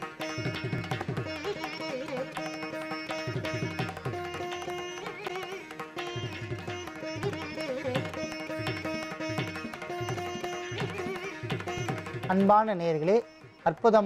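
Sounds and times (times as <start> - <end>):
plucked string melody: 0.0 - 14.0
tabla beat: 0.0 - 14.0.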